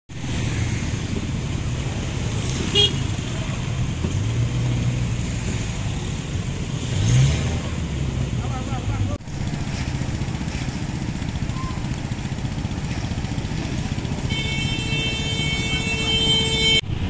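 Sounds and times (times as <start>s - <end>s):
engine revving: 0.1s - 16.0s
idling car and motorcycle engines: 0.1s - 17.0s.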